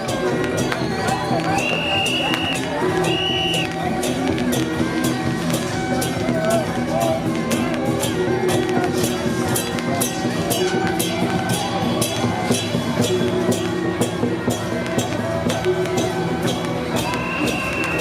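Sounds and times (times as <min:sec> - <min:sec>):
drum and percussion strikes: 0:00.0 - 0:18.0
sustained melody notes: 0:00.0 - 0:18.0.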